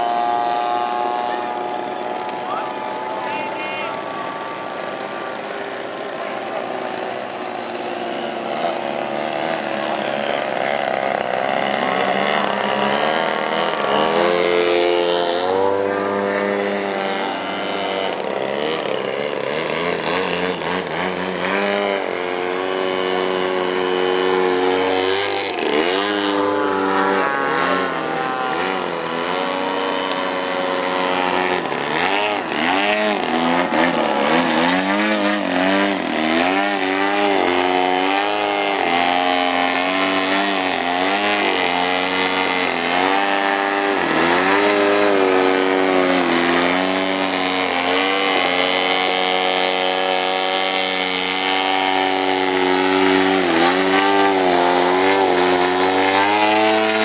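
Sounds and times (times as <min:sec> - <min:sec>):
model plane engines revving: 0:00.0 - 0:57.0.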